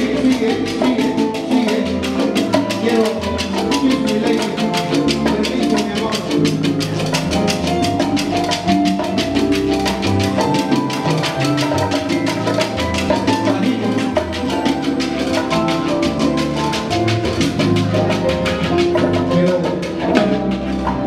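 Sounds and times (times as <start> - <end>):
congas and bongos rhythm: 0.0 - 21.0
salsa band playing: 0.0 - 21.0.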